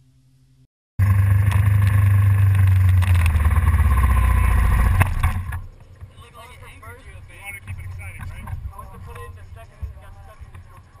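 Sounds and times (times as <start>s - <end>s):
motorcycle engine rumbling: 0.1s - 11.0s.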